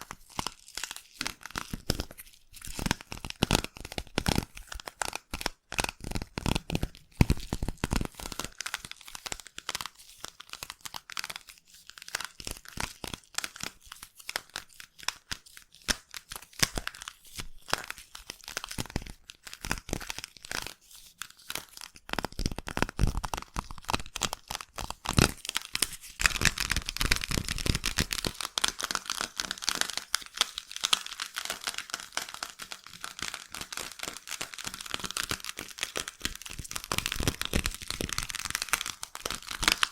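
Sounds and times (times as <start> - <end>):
slime squishing crackles: 0.0 - 39.9.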